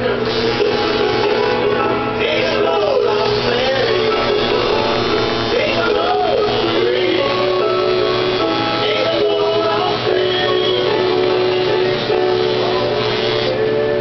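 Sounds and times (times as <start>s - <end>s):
song with sung melody: 0.6s - 14.0s.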